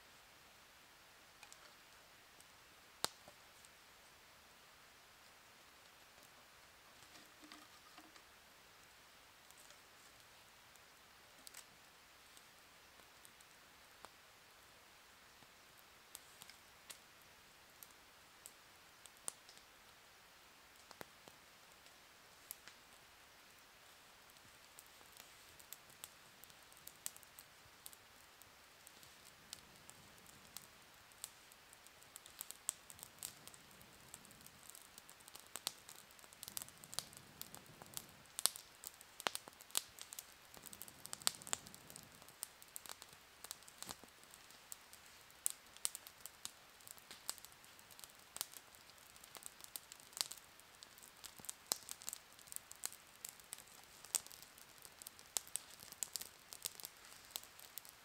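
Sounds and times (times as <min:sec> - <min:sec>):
campfire crackling and popping: 0:01.3 - 0:03.9, 0:05.2 - 0:14.6, 0:15.3 - 0:20.0, 0:20.6 - 0:58.0.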